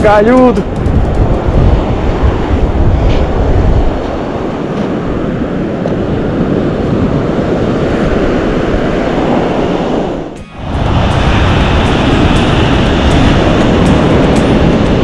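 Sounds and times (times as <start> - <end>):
breaking surf roar: 0.0 - 15.0
wind on microphone: 0.0 - 15.0.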